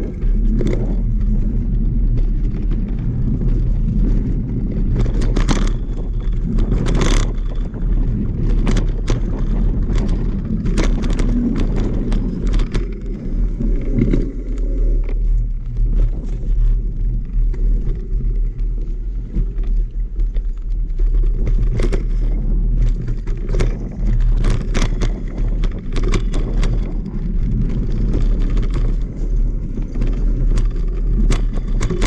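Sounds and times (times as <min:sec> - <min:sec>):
bike clicks and rattles: 0:00.0 - 0:32.0
wind rumble on microphone: 0:00.0 - 0:32.0.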